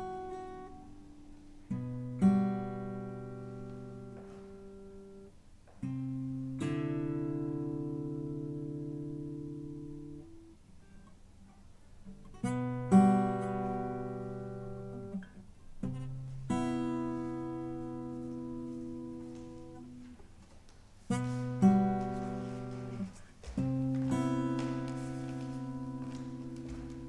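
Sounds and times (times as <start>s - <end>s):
acoustic guitar chords: 0.0s - 11.2s, 12.1s - 20.3s, 21.0s - 27.0s.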